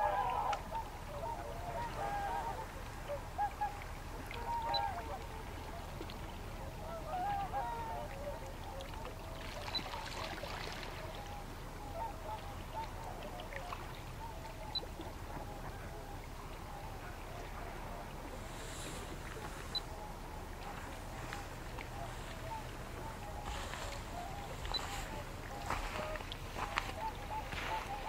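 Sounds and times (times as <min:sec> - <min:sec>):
waterfowl calling: 0:00.0 - 0:28.0.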